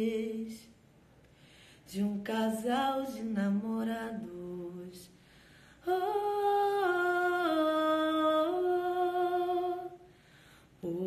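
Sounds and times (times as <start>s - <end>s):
woman singing a cappella: 0.0s - 0.8s, 1.8s - 11.0s.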